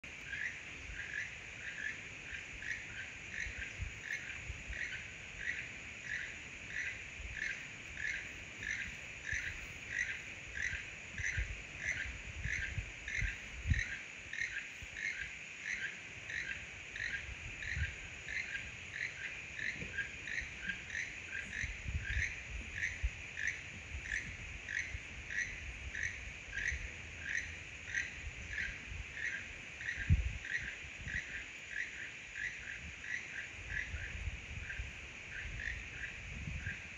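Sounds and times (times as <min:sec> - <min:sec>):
steady high hiss: 0:00.0 - 0:36.9
toucan croaking call: 0:00.2 - 0:36.8.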